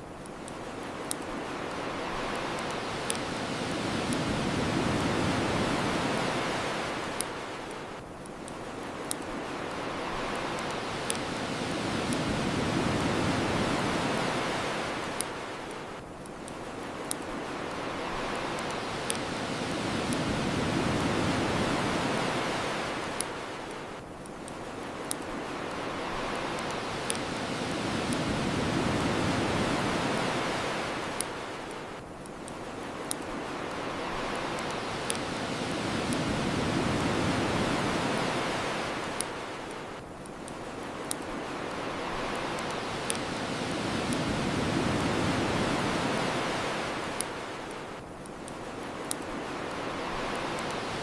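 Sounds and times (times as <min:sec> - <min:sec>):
ocean surf washing onto shore: 0:00.0 - 0:51.0
bonfire crackling pops: 0:00.2 - 0:15.4, 0:16.0 - 0:23.4, 0:24.0 - 0:39.4, 0:40.0 - 0:47.4, 0:48.1 - 0:51.0.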